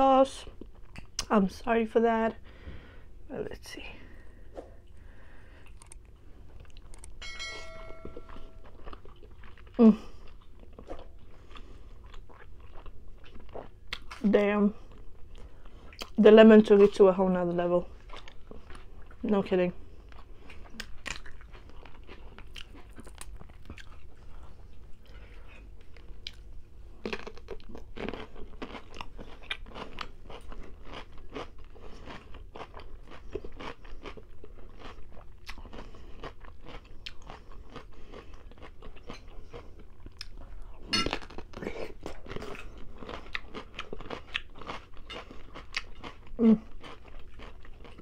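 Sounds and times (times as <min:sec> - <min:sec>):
crunching and chewing cucumber: 0:00.1 - 0:01.4, 0:04.6 - 0:07.2, 0:08.6 - 0:48.0.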